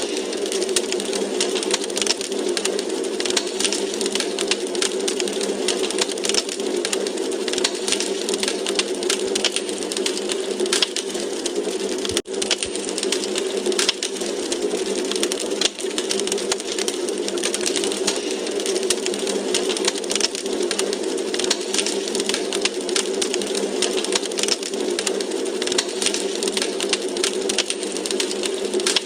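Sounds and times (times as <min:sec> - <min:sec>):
fire hiss: 0:00.0 - 0:29.0
wood fire crackling: 0:00.0 - 0:29.0.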